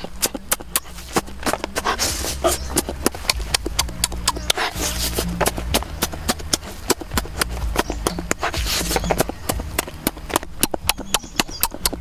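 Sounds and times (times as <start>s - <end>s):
low steady hum: 0.0s - 12.0s
wet chewing and lip-smacking: 0.0s - 12.0s.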